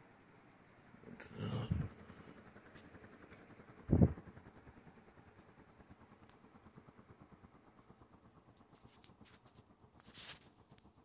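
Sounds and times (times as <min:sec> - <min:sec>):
ceiling fan whirring: 0:00.0 - 0:11.0.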